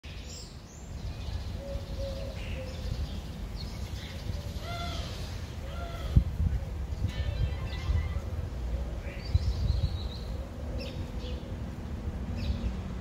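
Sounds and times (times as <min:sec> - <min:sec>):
birds calling: 0:00.1 - 0:12.9.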